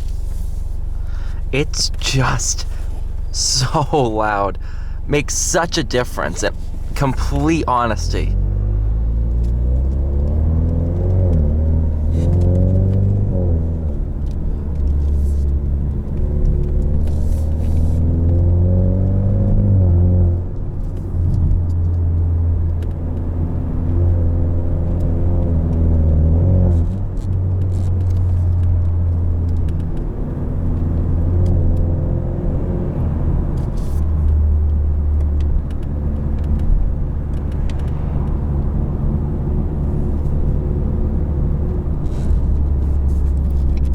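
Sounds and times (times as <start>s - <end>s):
car engine accelerating: 8.3s - 43.9s.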